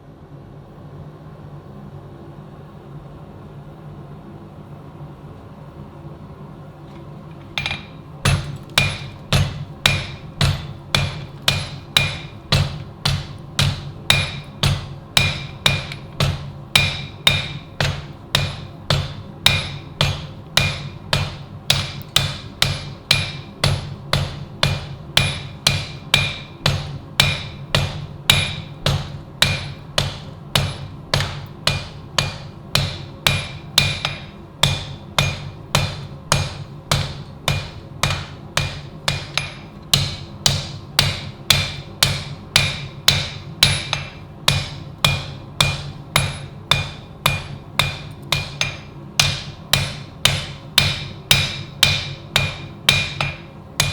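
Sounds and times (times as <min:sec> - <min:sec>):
steady low hum: 0:00.0 - 0:53.9
hammer striking steel: 0:07.4 - 0:53.9.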